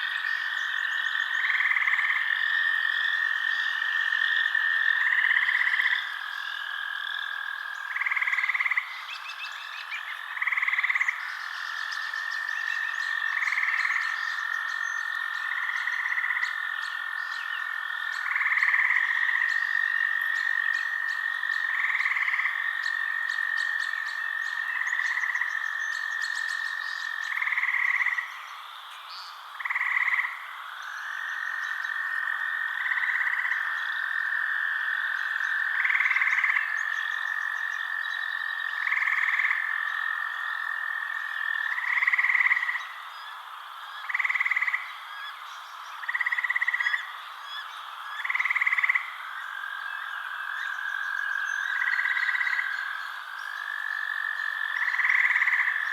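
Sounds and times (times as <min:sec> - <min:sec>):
frogs trilling: 0:00.0 - 0:55.9
short loud frog calls: 0:00.0 - 0:55.9.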